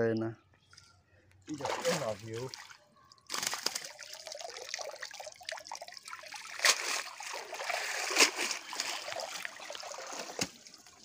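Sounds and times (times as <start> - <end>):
sharp splash: 1.5 - 10.7
water dribbling off a net: 1.5 - 11.0.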